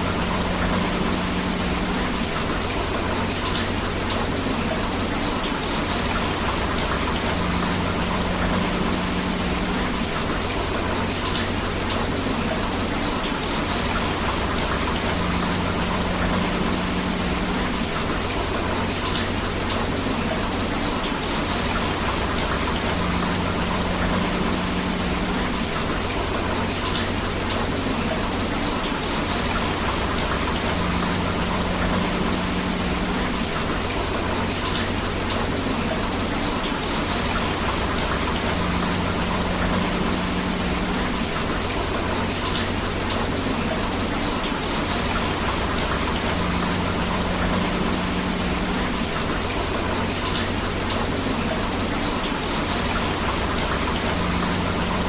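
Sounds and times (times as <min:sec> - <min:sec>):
river water flowing: 0:00.0 - 0:55.0
steady rain: 0:00.0 - 0:55.0.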